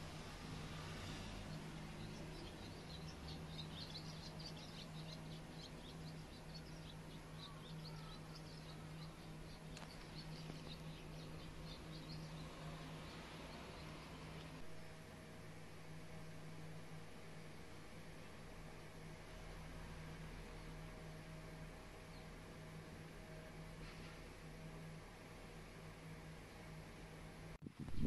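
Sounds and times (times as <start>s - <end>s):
small birds chirping rapidly: 0.0s - 25.4s
steady low hum: 0.0s - 28.0s.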